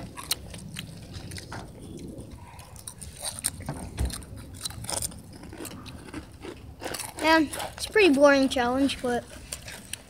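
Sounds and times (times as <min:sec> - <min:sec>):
people crunching chips: 0:00.0 - 0:10.0.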